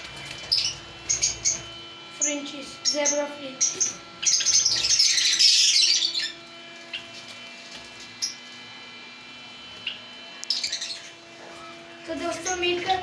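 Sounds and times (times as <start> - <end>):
finches chattering: 0.0 - 8.8, 9.4 - 13.0.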